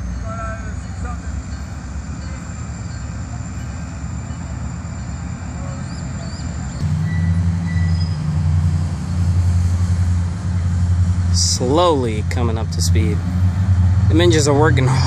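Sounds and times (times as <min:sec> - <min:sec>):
distant diesel locomotive rumble: 0:00.0 - 0:15.0.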